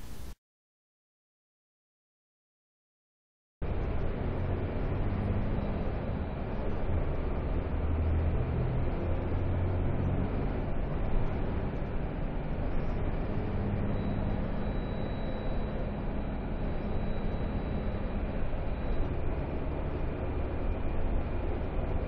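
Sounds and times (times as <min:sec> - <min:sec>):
vehicle engine and road noise: 0:00.0 - 0:00.4, 0:03.6 - 0:22.0.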